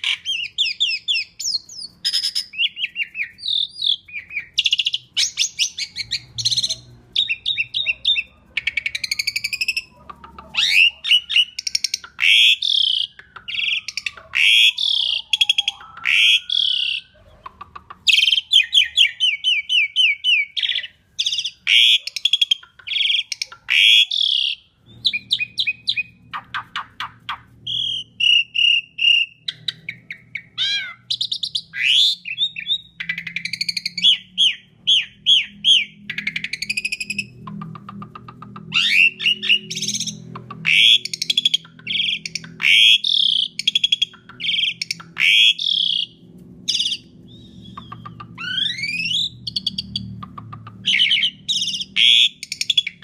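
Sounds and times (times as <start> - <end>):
starling singing: 0.0 - 53.0.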